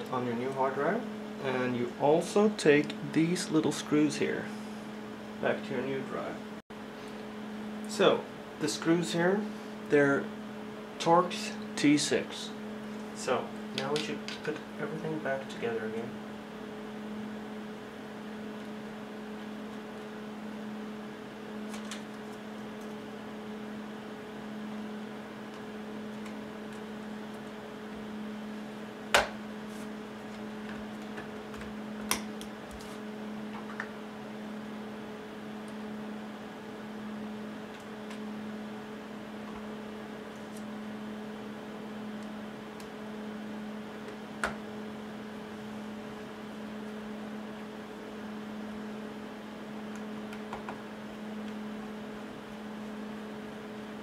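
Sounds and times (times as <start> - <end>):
steady electrical hum: 0.0 - 54.0.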